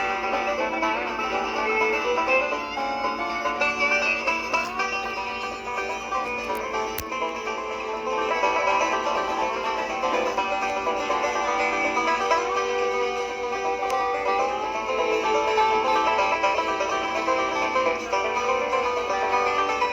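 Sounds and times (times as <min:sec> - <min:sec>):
upbeat bluegrass tune with banjo: 0:00.0 - 0:19.9.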